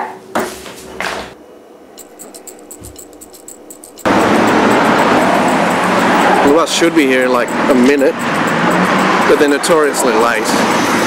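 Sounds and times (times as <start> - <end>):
roadside traffic noise: 2.0 - 11.0.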